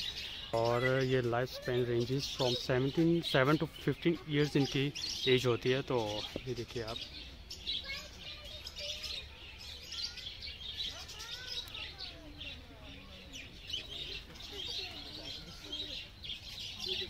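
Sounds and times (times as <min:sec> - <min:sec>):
budgies chattering and chirping: 0:00.0 - 0:17.0.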